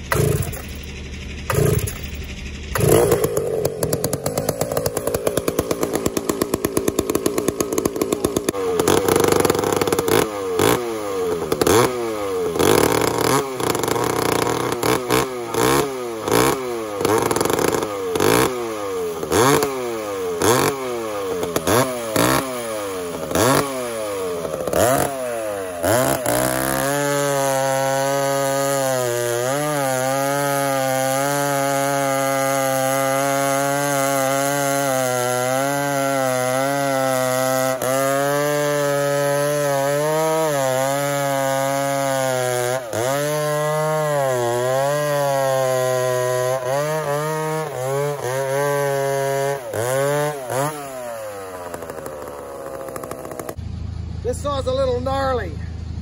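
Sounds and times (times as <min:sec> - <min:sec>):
chainsaw engine revving: 0:00.0 - 0:53.6
chainsaw pull-start: 0:00.0 - 0:53.6.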